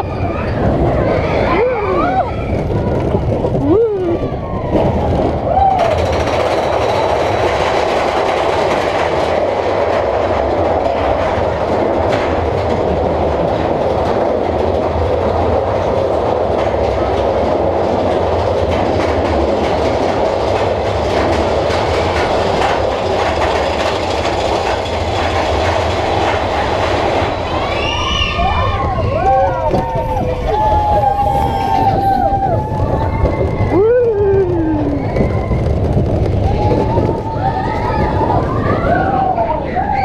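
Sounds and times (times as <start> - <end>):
roller coaster wheels rumbling: 0.0 - 40.0.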